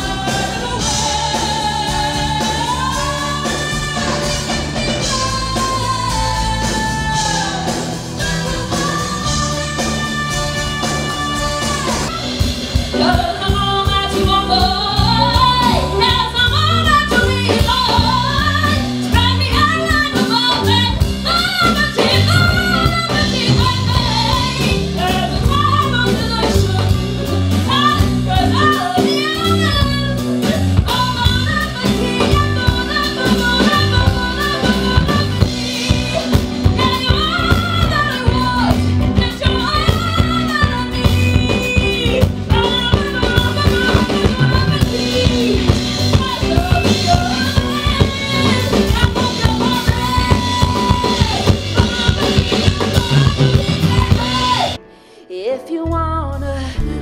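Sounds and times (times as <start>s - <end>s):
band with electric guitar: 0.0s - 55.2s
woman singing into microphone: 0.0s - 57.0s.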